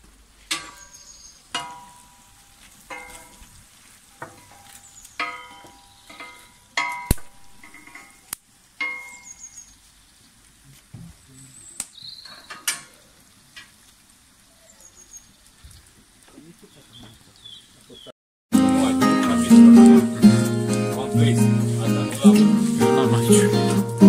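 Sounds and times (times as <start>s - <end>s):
food sizzling in a pan: 0.4s - 17.7s, 18.6s - 24.0s.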